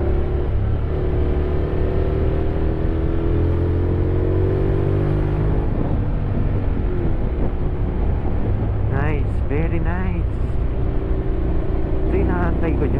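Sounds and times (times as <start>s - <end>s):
motorcycle engine accelerating: 0.0s - 9.0s, 10.4s - 12.9s.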